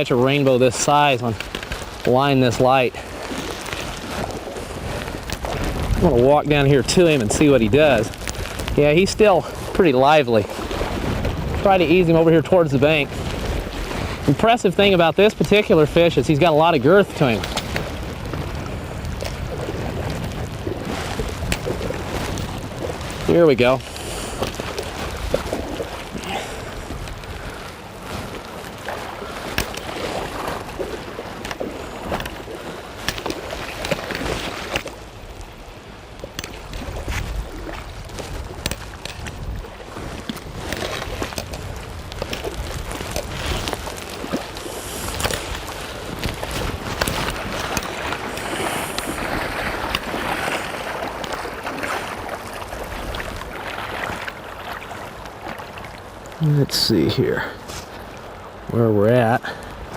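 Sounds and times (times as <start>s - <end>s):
wind buffeting microphone: 0.0s - 55.3s
river water flowing: 0.0s - 59.9s.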